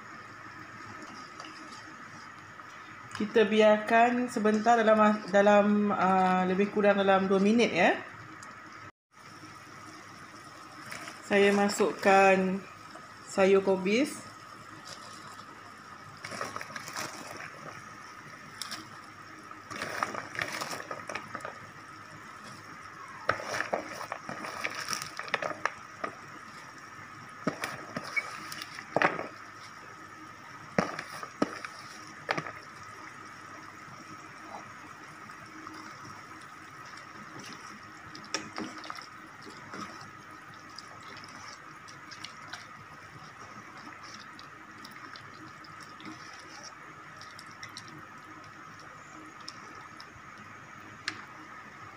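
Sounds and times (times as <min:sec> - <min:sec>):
soup simmering: 0:08.2 - 0:13.3, 0:14.3 - 0:51.7.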